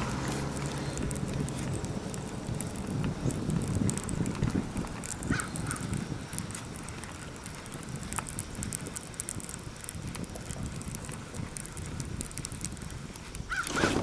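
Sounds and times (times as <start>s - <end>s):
wind rumbling on microphone: 0.0s - 14.0s
fishing reel ticking: 0.3s - 14.0s.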